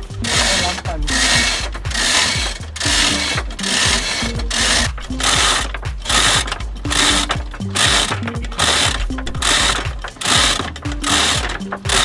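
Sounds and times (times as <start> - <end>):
ratcheting winch clicking: 0.0 - 12.0.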